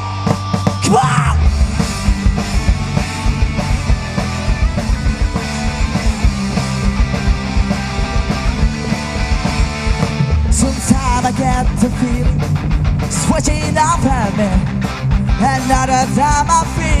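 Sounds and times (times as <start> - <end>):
bass and drums beat: 0.0 - 17.0
electric guitar: 0.0 - 17.0.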